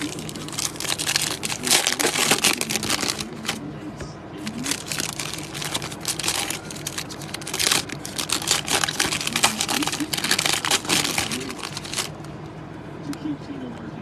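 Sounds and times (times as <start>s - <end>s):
foil wrapper crinkling: 0.0s - 3.6s, 4.4s - 12.3s.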